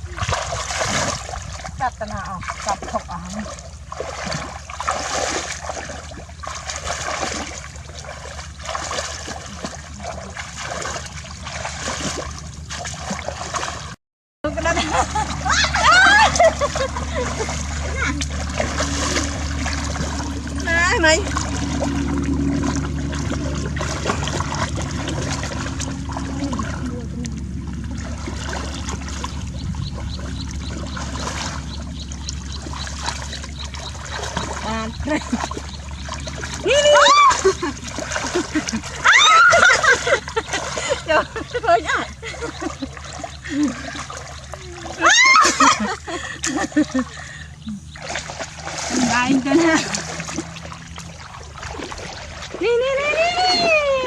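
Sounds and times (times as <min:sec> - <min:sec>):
shallow water splashing and trickling: 0:00.0 - 0:54.0
steady low hum: 0:00.0 - 0:54.0.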